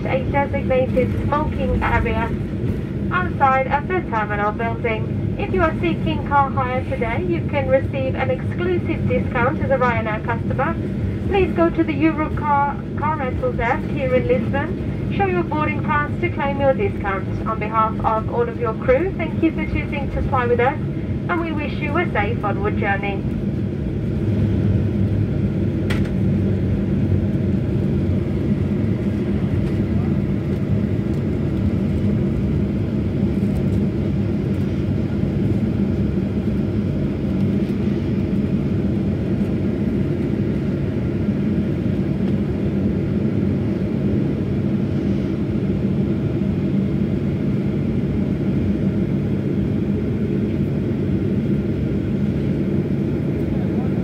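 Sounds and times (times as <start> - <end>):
jet cabin rumble: 0.0 - 54.0.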